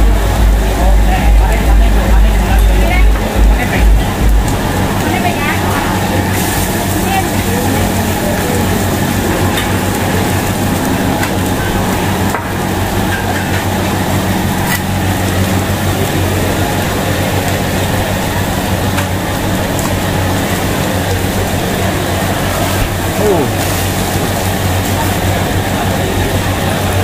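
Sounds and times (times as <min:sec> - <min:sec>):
kitchen rushing noise and hum: 0:00.0 - 0:27.0.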